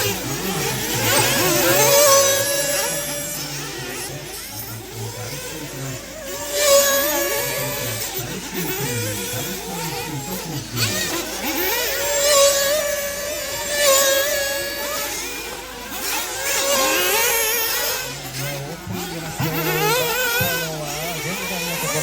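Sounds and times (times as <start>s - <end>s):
rc car engines revving: 0.0s - 22.0s.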